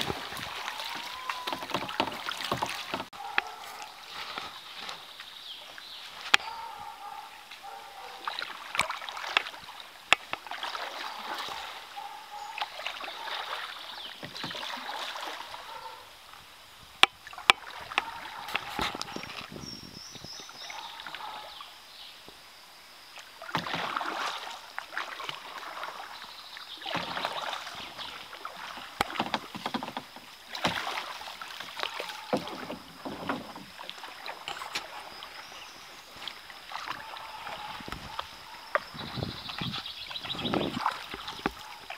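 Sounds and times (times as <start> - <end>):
paddle swishing through water: 0.0 - 16.2, 17.0 - 21.6, 23.2 - 41.9.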